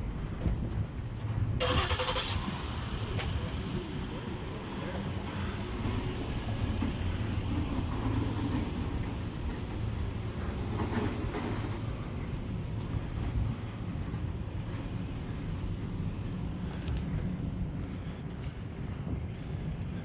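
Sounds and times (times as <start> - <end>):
motor vehicle rumbling: 0.0 - 20.0.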